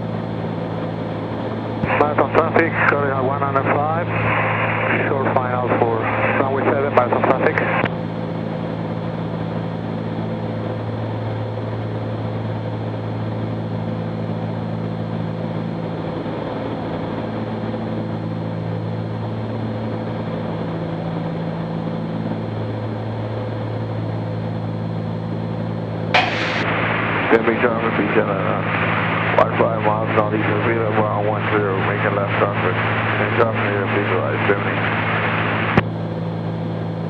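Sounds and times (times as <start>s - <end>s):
aircraft propeller engines droning: 0.0s - 37.0s.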